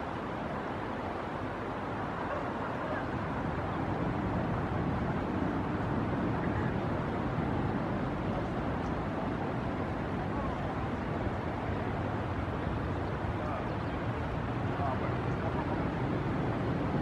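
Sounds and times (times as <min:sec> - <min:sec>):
wind along the shore: 0:00.0 - 0:17.0.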